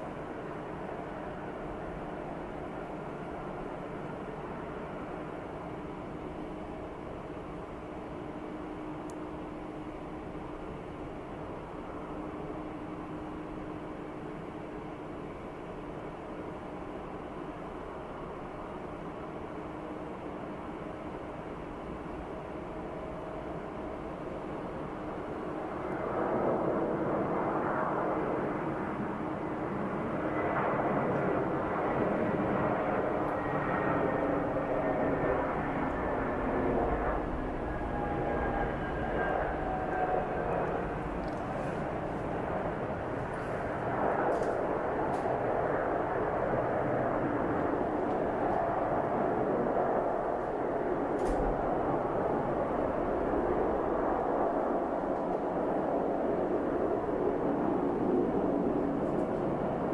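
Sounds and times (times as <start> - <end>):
jet engines at climb thrust: 0.0 - 59.9.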